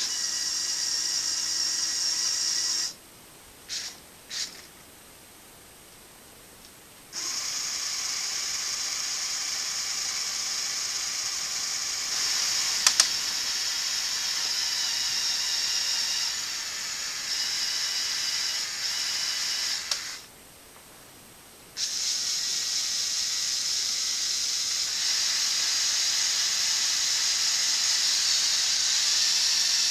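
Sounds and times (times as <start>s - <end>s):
toy motors whirring: 0.0s - 3.0s, 3.7s - 4.7s, 7.1s - 20.3s, 21.8s - 29.9s.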